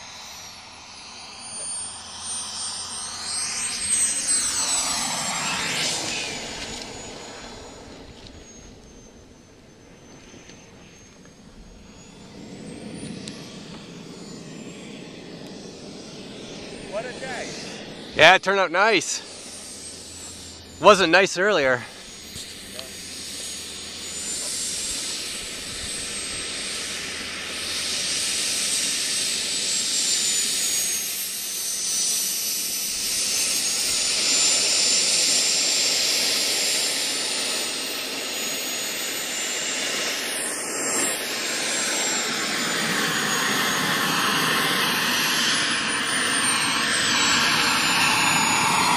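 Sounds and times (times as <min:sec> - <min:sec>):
model jet engine whine: 0:00.0 - 0:48.9.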